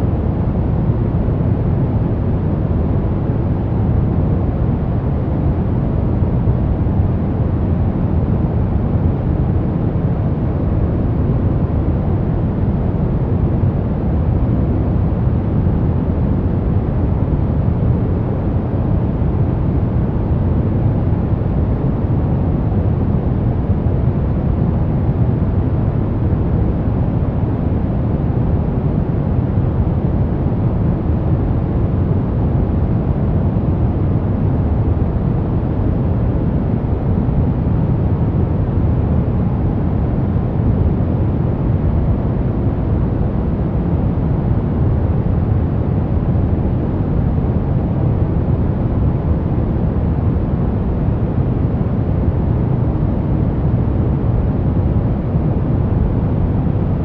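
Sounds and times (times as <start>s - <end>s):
deep white noise: 0.0s - 57.0s.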